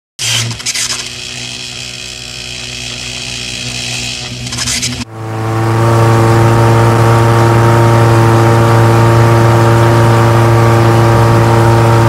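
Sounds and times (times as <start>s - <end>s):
boat engine running: 0.2s - 12.0s.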